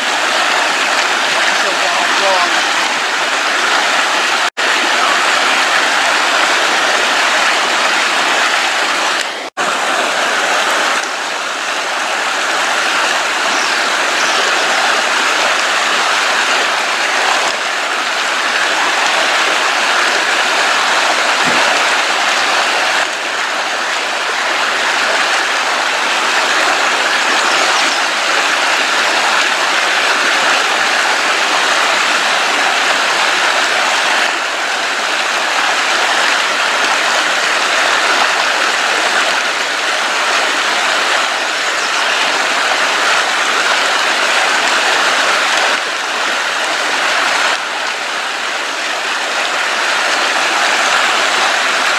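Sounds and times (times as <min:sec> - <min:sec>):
creek water flowing: 0:00.0 - 0:51.9.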